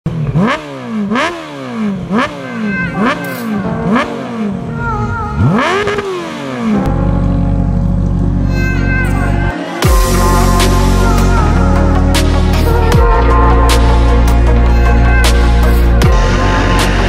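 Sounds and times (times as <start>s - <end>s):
motorcycle engine revving: 0.1s - 17.0s
electronic music with heavy bass: 2.9s - 17.0s.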